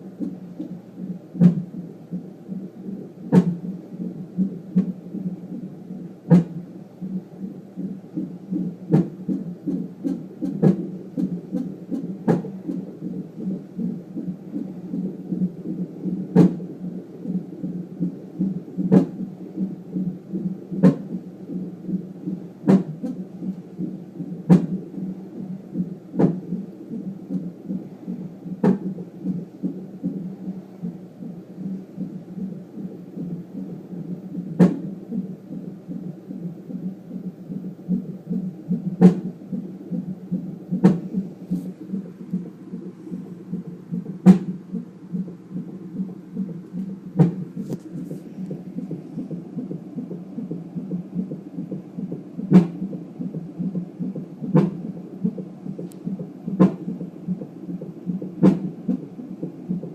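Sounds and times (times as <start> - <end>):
pulsing heartbeat whoosh: 0.0 - 59.9.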